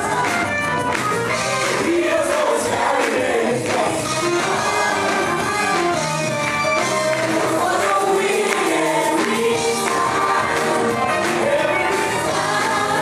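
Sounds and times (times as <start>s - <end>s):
drums bass and guitars: 0.0s - 13.0s
vocal group singing gospel: 1.4s - 6.0s, 6.8s - 13.0s.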